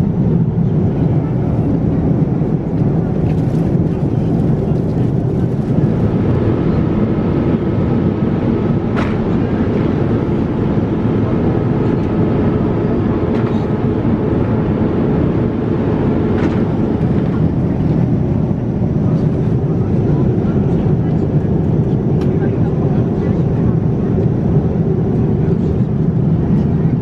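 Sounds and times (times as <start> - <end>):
airliner cabin roar: 0.0 - 27.0.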